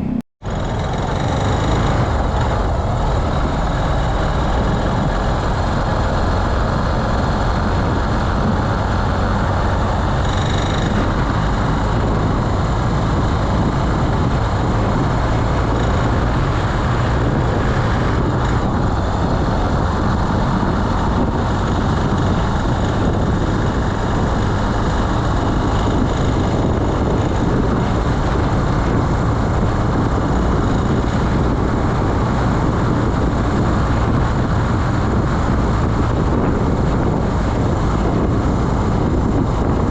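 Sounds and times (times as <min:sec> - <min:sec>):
road noise: 0:00.0 - 0:39.9
scooter engine running: 0:00.0 - 0:39.9
wind noise: 0:00.0 - 0:39.9.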